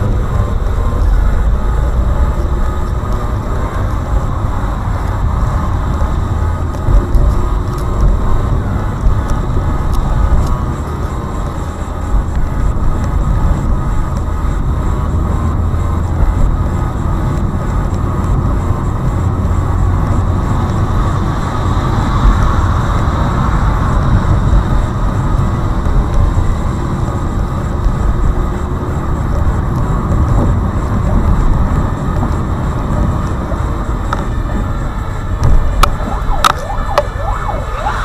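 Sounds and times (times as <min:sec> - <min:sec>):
car driving rumble: 0:00.0 - 0:38.0.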